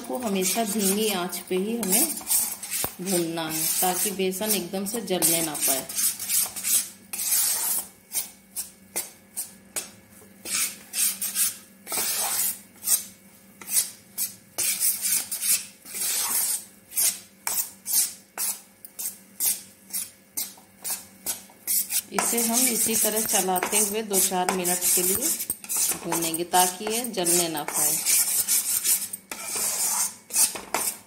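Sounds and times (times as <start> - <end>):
metal spatula scraping a pan: 0.1 - 8.7, 10.4 - 31.0.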